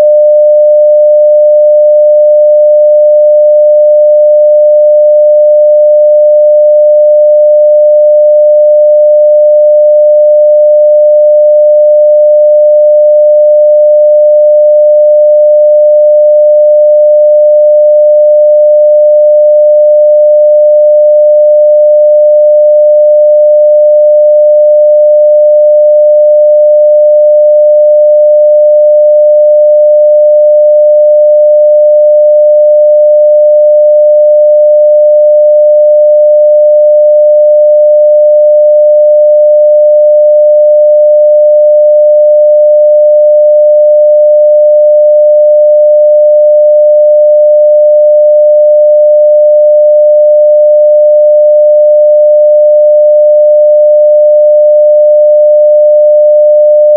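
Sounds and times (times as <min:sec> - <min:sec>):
sine-wave test tone: 0:00.0 - 0:56.9.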